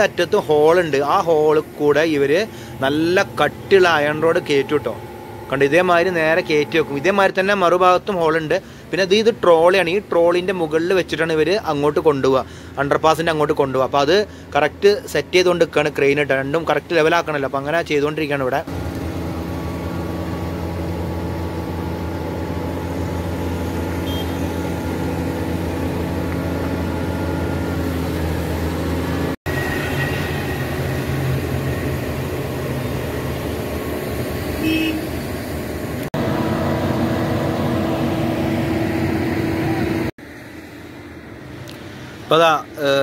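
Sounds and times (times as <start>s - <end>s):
crane diesel engine running: 0.0s - 43.0s.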